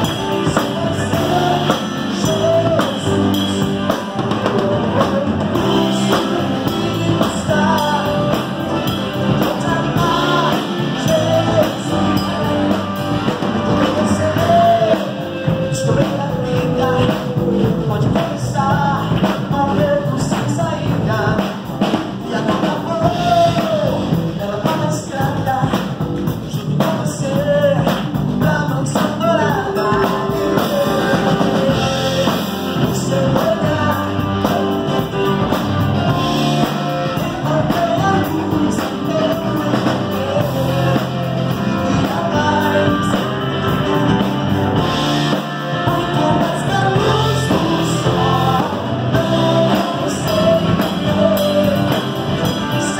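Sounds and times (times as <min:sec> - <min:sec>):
bass guitar: 0:00.0 - 0:52.9
drum kit: 0:00.0 - 0:52.9
electric guitar: 0:00.0 - 0:52.9
keyboard: 0:00.0 - 0:52.9
person singing: 0:00.0 - 0:52.9.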